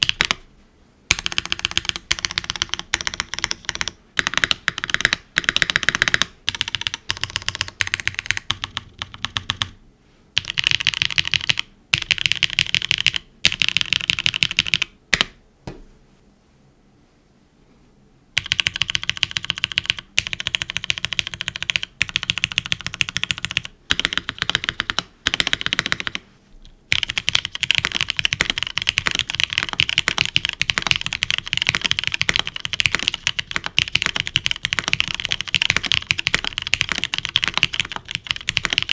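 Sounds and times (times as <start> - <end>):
fast typing on mechanical keyboard: 0.0 - 0.5, 1.1 - 9.8, 10.4 - 15.3, 18.4 - 26.2, 26.9 - 38.9.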